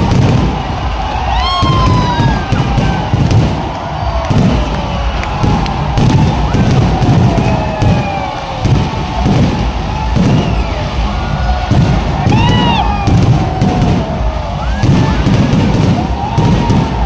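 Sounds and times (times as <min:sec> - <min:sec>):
crowd noise: 0:00.0 - 0:17.0
fireworks booming: 0:00.0 - 0:17.0.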